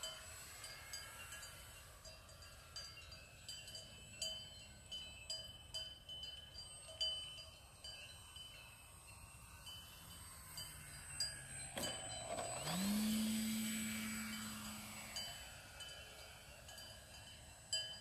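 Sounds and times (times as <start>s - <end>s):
cowbells ringing: 0.0s - 12.8s, 15.0s - 18.0s.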